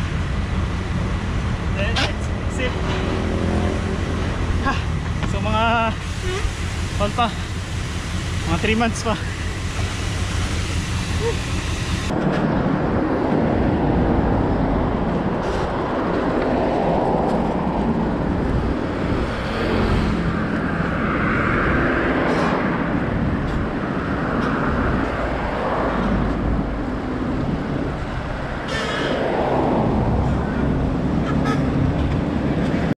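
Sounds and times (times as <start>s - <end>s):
vehicles passing: 0.0s - 33.0s.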